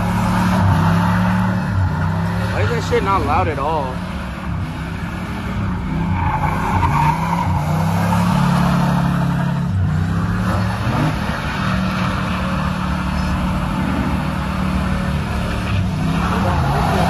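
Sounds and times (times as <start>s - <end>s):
car engine revving: 0.0s - 17.0s
tires squealing: 0.0s - 17.0s.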